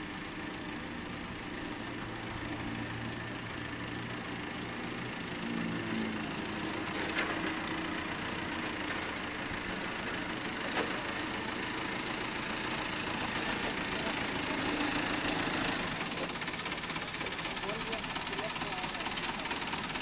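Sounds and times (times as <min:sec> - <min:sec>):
forklift engine running: 0:00.0 - 0:20.0.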